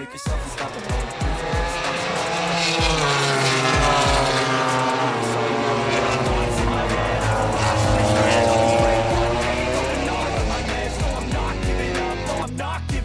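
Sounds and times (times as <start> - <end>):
motorcycle engine at high revs: 0.3 - 12.6.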